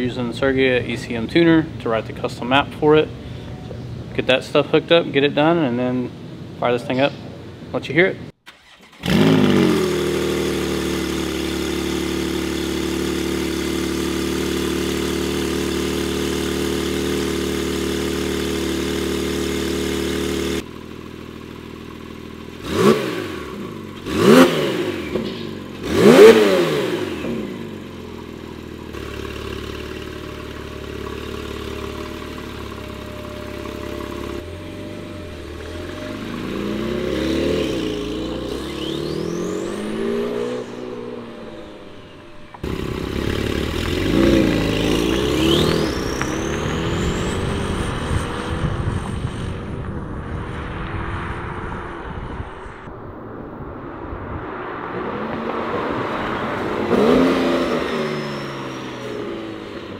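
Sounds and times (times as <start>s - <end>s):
car engine idling and revving: 8.3s - 59.9s.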